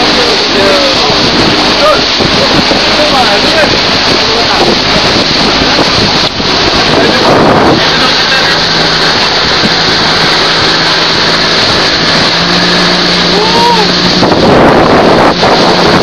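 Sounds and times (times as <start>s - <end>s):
boat engine running: 0.0s - 16.0s
wind noise on microphone: 0.0s - 16.0s.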